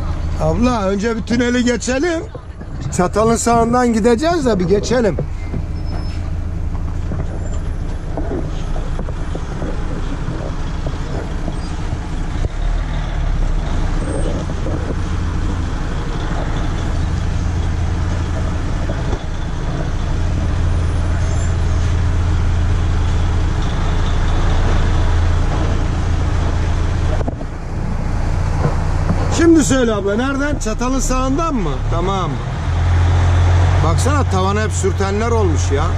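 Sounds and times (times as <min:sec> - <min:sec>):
road and cab noise: 0:00.0 - 0:35.9
truck engine hum: 0:00.0 - 0:35.9.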